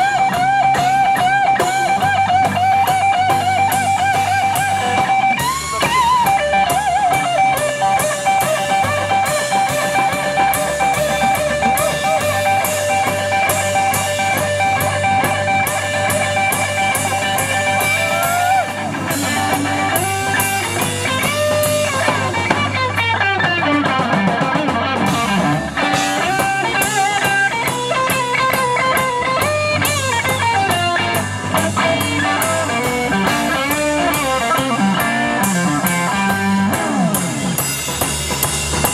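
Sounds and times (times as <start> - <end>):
electric guitar lead: 0.0 - 38.9
rock band playing: 0.0 - 38.9.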